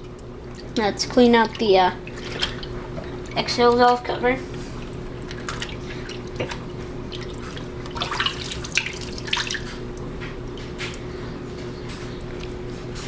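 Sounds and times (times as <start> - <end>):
water splashing and dripping: 0.0 - 4.0, 4.7 - 12.9
steady low hum: 0.0 - 13.0.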